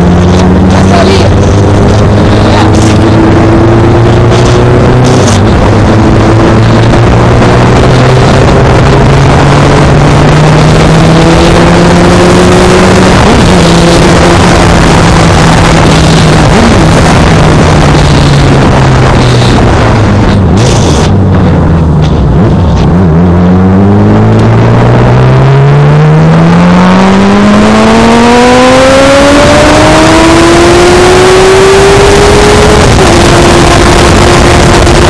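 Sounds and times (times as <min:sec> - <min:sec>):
loud rush of noise: 0:00.0 - 0:35.0
motorcycle engine cruising: 0:00.0 - 0:35.0.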